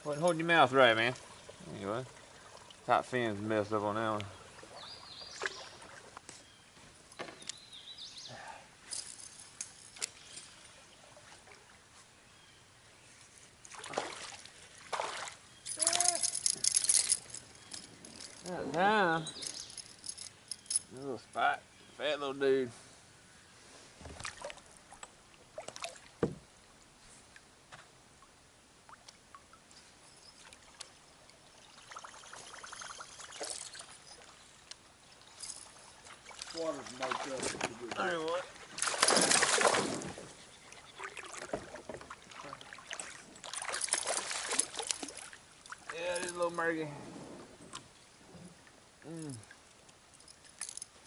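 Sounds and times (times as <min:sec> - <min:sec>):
faint water trickle: 0:00.0 - 0:23.5, 0:24.2 - 0:47.0, 0:47.7 - 0:51.0.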